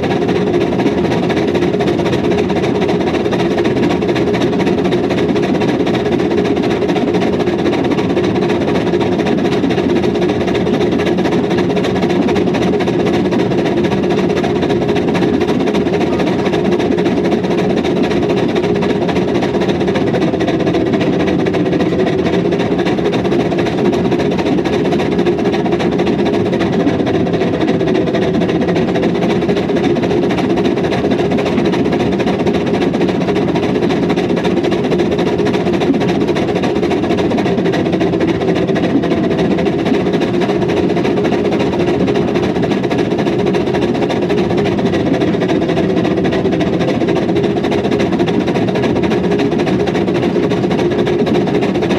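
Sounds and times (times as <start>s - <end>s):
steam locomotive exhaust beat: 0.0s - 51.9s.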